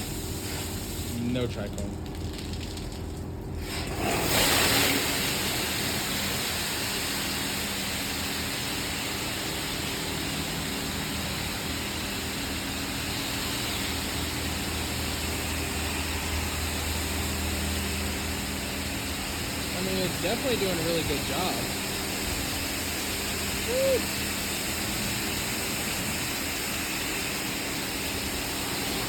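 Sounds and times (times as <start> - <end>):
high-pressure water spraying: 0.0 - 3.0, 3.6 - 29.0
low machine hum: 0.0 - 29.0.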